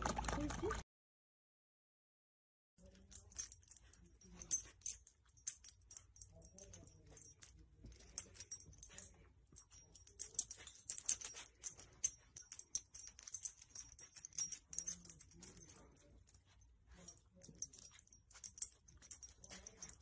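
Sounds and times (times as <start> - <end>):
dog collar tags jingling: 2.8 - 20.0.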